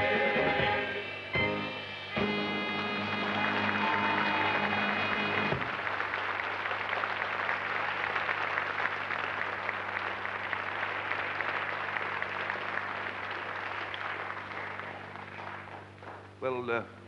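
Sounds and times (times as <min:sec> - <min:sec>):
steady low hum: 0:00.0 - 0:17.0
audience applauding: 0:02.3 - 0:16.8.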